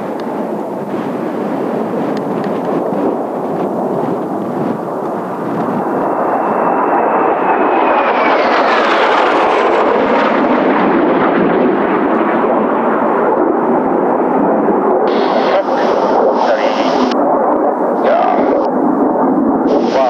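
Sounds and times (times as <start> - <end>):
jet passing close by: 0.0 - 20.0.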